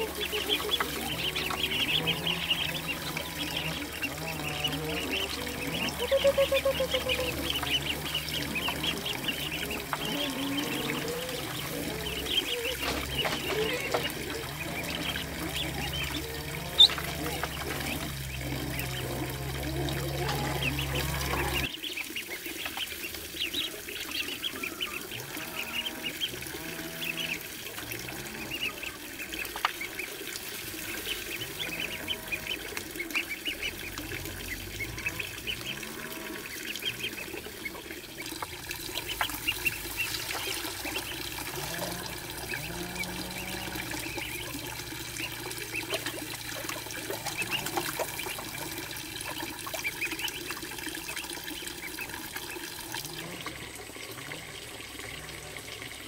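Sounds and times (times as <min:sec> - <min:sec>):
goslings peeping: 0:00.0 - 0:53.6
water running into a pond: 0:00.0 - 0:56.0.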